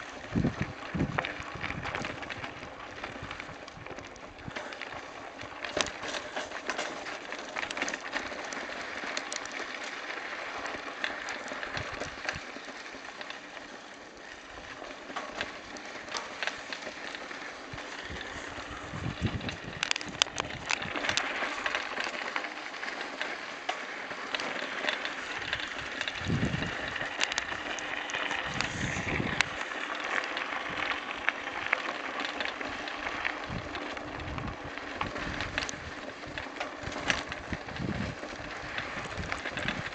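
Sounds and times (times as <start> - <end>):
bike rattling: 0.0 - 39.9
bike tyres crunching on gravel: 0.0 - 39.9.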